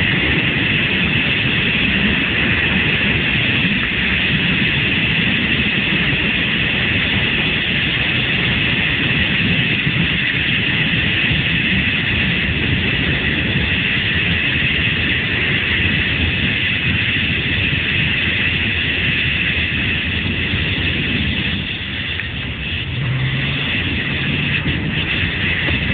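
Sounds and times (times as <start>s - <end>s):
motorcycle engine at speed: 0.0s - 25.9s
wind rushing: 0.0s - 25.9s.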